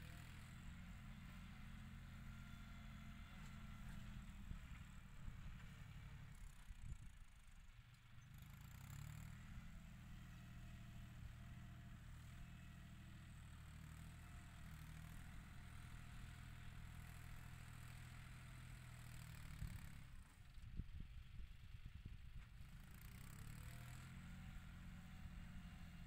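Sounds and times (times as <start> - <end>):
distant tractor engine hum: 0.0 - 26.0.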